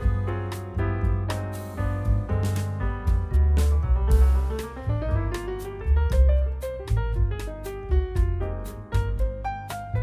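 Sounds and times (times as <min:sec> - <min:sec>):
background piano music: 0:00.0 - 0:10.0
light percussion: 0:00.0 - 0:10.0
steady bass line: 0:00.0 - 0:10.0.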